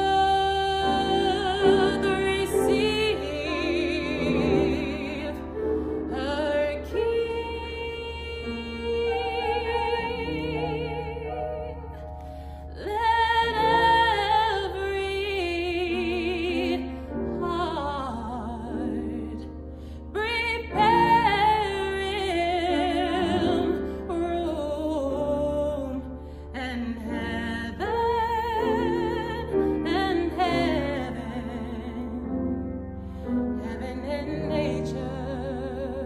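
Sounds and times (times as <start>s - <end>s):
woman singing with vibrato: 0.0s - 19.5s, 20.1s - 32.6s, 33.2s - 36.0s.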